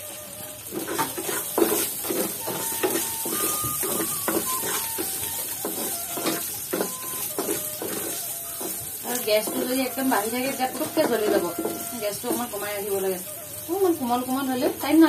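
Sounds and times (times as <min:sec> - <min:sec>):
oil sizzling: 0:00.0 - 0:15.0
spatula scraping a wok: 0:00.4 - 0:14.2.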